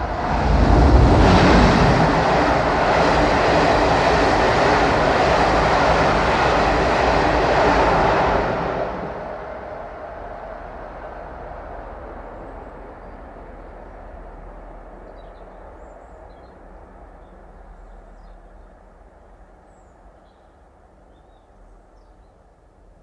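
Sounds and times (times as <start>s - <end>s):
train rumbling over metal bridge: 0.0s - 22.0s.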